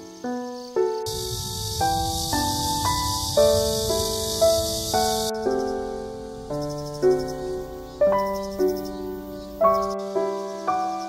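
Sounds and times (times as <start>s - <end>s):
gentle keyboard melody: 0.0s - 11.0s
steady high hiss: 0.0s - 11.0s.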